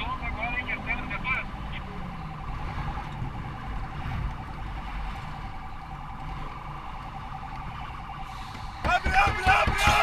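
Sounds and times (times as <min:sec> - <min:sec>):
engine and road rumble: 0:00.0 - 0:10.0
police siren warbling: 0:00.0 - 0:10.0.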